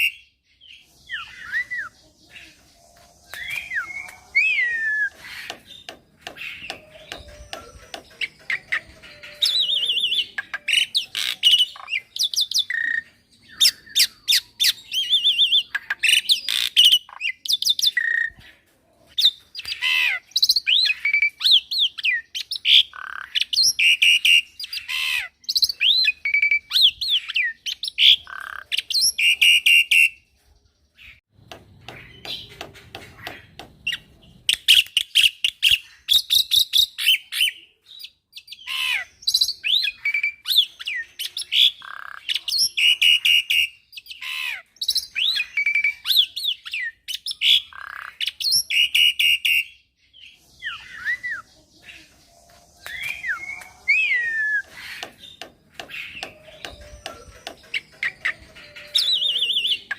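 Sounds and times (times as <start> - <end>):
myna bird singing: 0.0 - 59.9.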